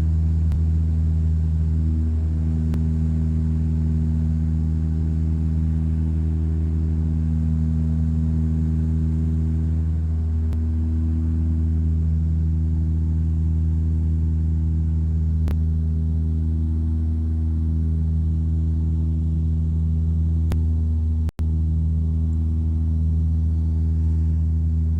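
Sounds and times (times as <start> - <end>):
turboprop engines droning: 0.0 - 24.9.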